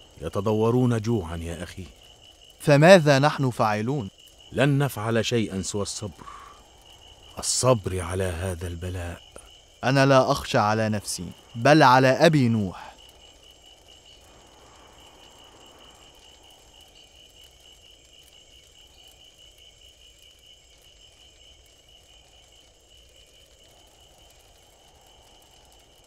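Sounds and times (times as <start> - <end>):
crickets chirping: 0.0 - 26.0
soft background hiss: 0.0 - 26.0.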